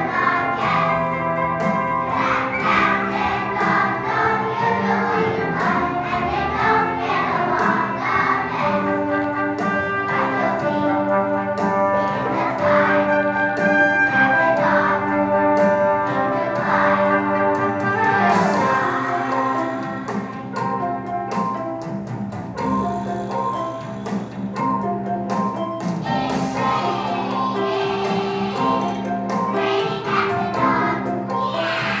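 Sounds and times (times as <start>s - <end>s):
children singing together: 0.0s - 21.0s, 26.0s - 32.0s
instrumental accompaniment: 0.0s - 32.0s.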